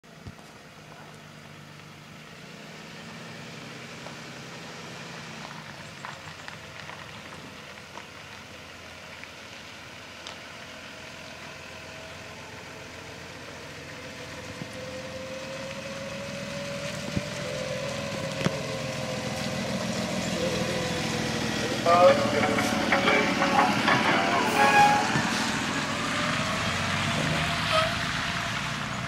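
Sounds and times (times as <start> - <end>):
bus engine running: 0.1 - 29.0.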